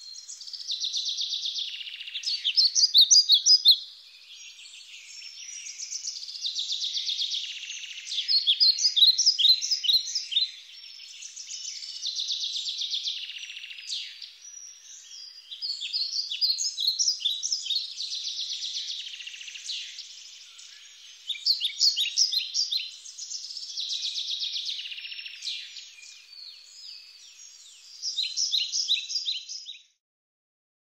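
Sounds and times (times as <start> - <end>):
birds chirping and trilling: 0.0 - 30.0.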